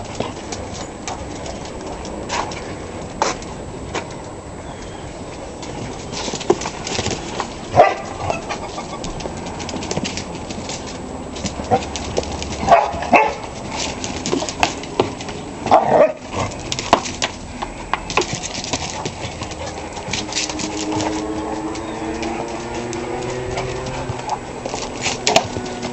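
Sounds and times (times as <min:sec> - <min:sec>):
dogs scuffling: 0:00.0 - 0:25.9
dogs barking and yelping: 0:04.6 - 0:25.9.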